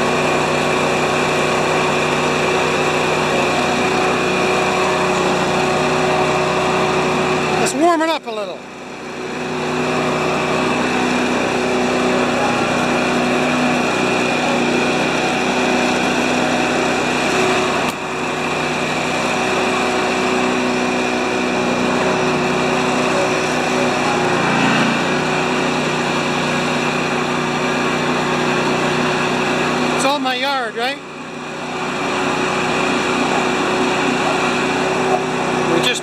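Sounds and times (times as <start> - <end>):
snowblower engine running: 0.0 - 36.0.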